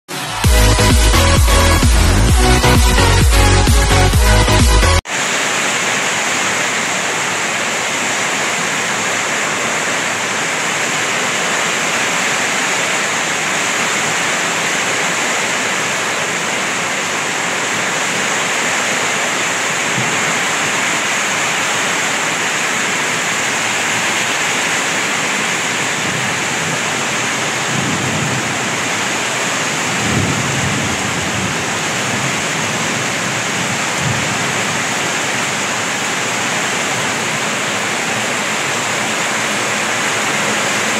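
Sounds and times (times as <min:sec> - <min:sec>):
heavy rain pouring on roofs: 0:00.1 - 0:40.9.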